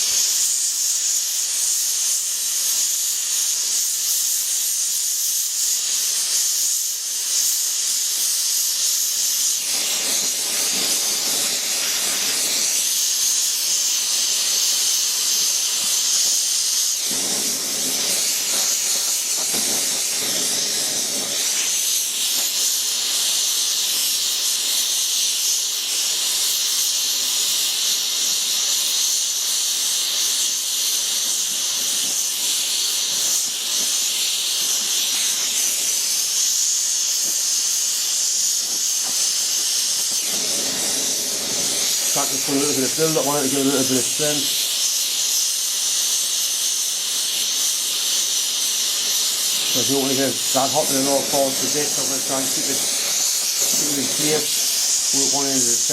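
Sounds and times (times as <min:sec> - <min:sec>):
torch flame hissing: 0:00.0 - 0:55.9.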